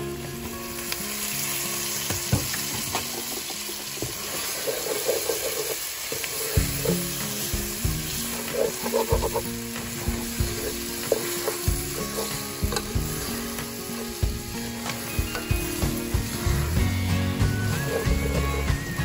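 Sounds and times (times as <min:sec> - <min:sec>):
soft background music: 0:00.0 - 0:04.5, 0:06.5 - 0:19.0
food sizzling in a pot: 0:00.0 - 0:19.0.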